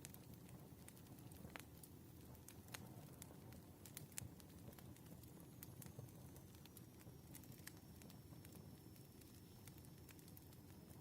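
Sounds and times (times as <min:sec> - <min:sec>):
firewood crackling and popping: 0:00.0 - 0:11.0
low rumble of flames: 0:00.0 - 0:11.0.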